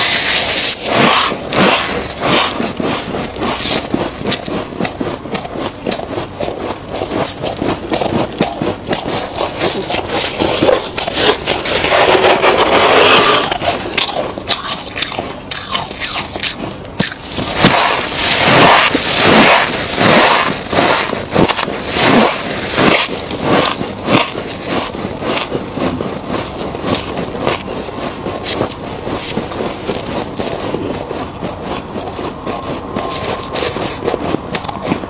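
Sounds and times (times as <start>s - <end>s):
frost crunching when chewed: 0.0s - 35.0s
gloved hands scraping frost: 0.0s - 35.0s.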